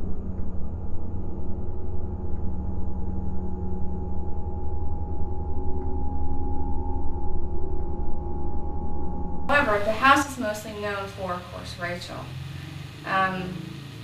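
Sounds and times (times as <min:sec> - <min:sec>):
low ambient drone: 0:00.0 - 0:14.0.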